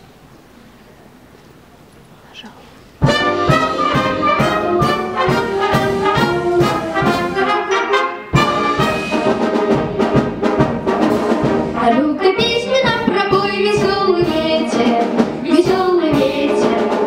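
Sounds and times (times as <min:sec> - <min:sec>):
brass-led orchestral march: 0:03.0 - 0:17.0.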